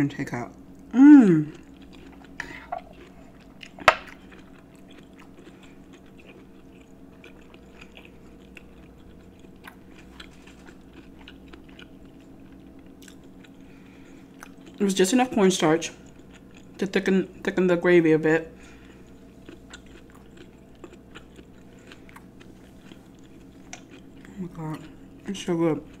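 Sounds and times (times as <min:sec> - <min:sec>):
person chewing food: 0:00.8 - 0:14.9, 0:15.6 - 0:17.0, 0:18.5 - 0:26.0.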